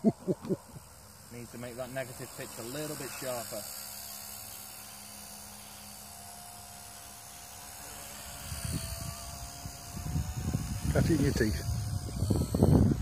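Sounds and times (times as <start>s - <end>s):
rc helicopter motor whining: 0.0s - 13.0s.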